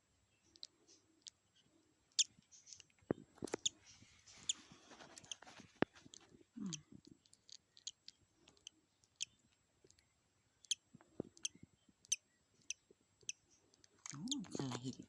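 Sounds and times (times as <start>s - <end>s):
tiny eggshell clicks: 0.4s - 3.8s, 5.1s - 15.0s.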